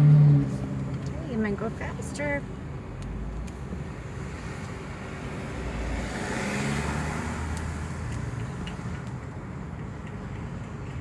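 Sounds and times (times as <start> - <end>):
tyre and road noise: 0.0 - 11.0
vehicle engine hum: 0.0 - 11.0.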